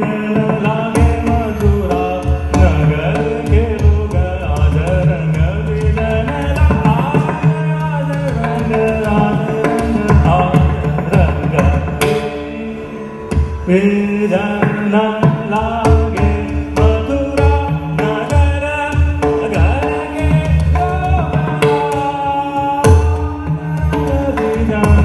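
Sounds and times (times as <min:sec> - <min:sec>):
man singing: 0:00.0 - 0:25.0
pakhawaj drum strokes: 0:00.0 - 0:25.0.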